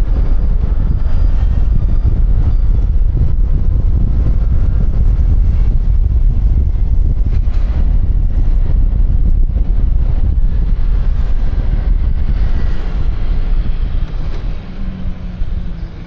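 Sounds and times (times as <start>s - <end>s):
scooter engine and road noise: 0.0s - 16.0s
wind rumble on microphone: 0.0s - 16.0s.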